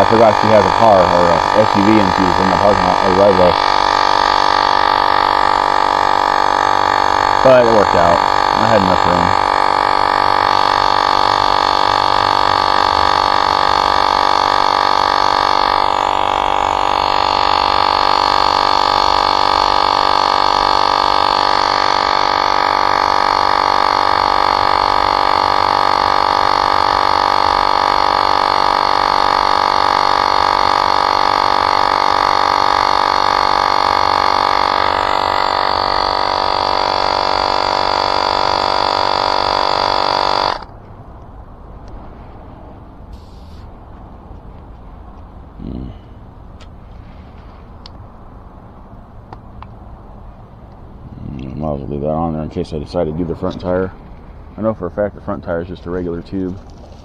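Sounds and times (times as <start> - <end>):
electric tire inflator buzzing: 0.0 - 52.4, 56.5 - 57.0.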